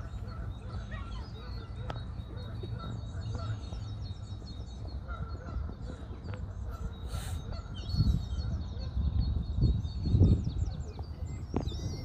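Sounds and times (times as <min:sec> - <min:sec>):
small birds chirping: 0:00.0 - 0:12.0
waterbirds calling: 0:00.0 - 0:12.0.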